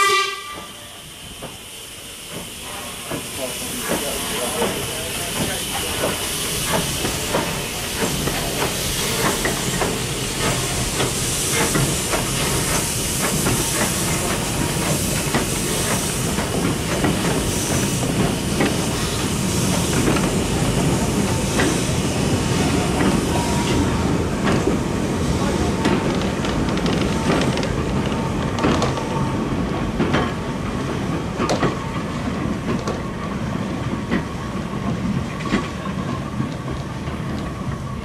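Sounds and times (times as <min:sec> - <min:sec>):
steam engine hissing: 0:00.0 - 0:31.4.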